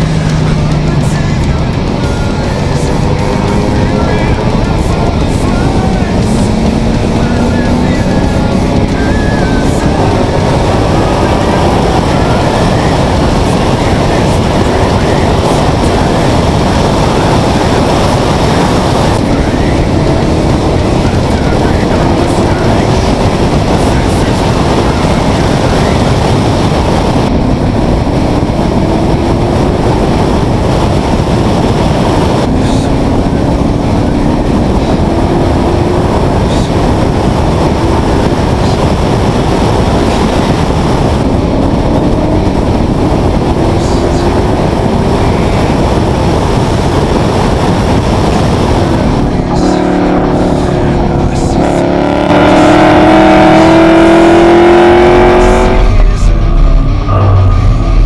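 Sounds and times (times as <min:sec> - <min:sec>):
race car engine accelerating: 0:00.0 - 0:58.0
wind buffeting on microphone: 0:00.0 - 0:58.0.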